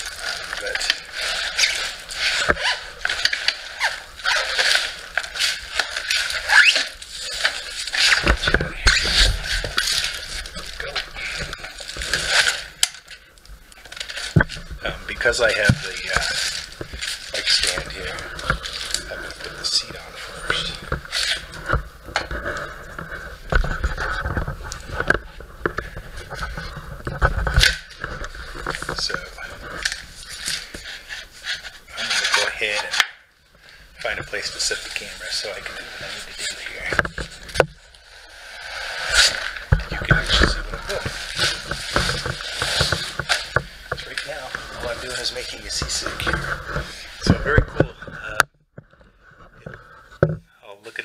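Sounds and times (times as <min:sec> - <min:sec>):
plastic wrap and foam crinkling: 0:00.0 - 0:50.2.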